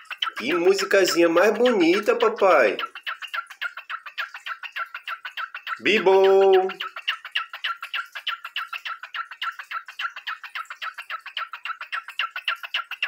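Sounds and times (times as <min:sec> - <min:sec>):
cockatiel chirping: 0:00.0 - 0:13.0.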